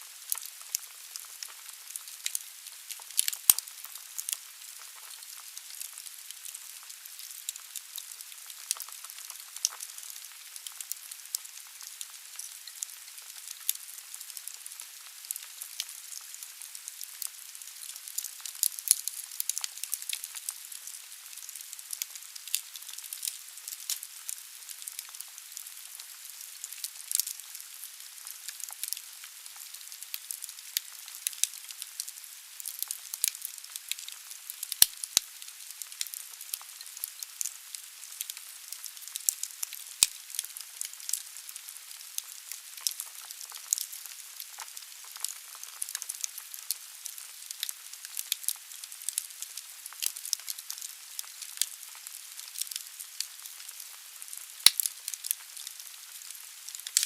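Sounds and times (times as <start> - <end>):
firewood crackling and popping: 0.2 - 57.0.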